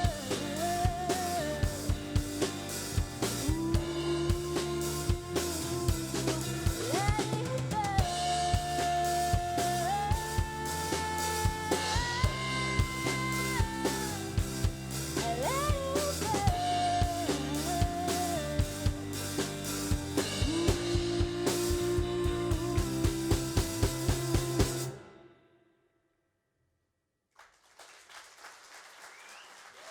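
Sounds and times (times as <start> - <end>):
drum kit beat: 0.0 - 25.0
band music: 0.0 - 25.3.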